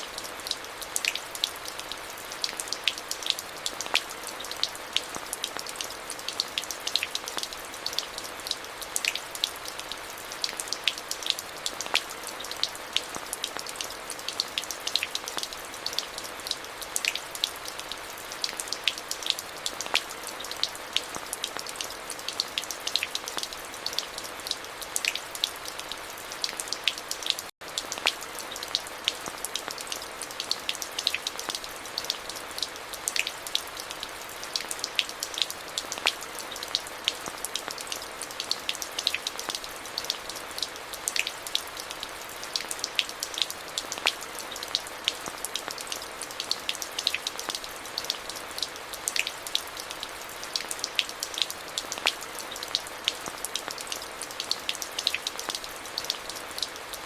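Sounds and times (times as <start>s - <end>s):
close raindrop ticks: 0.0s - 57.0s
steady rain hiss: 0.0s - 57.0s.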